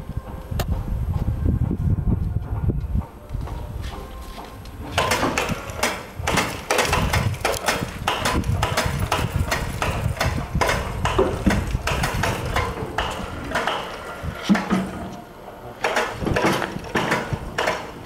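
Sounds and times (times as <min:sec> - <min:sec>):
hoist motor hum: 0:00.1 - 0:18.0.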